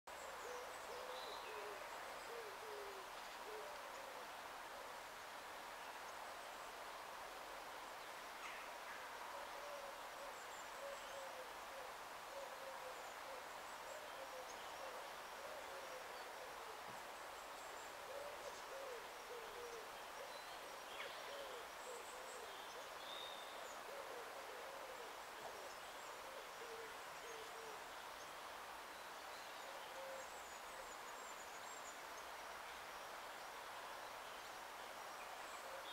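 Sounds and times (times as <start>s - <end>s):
faint steady hiss: 0.1s - 35.9s.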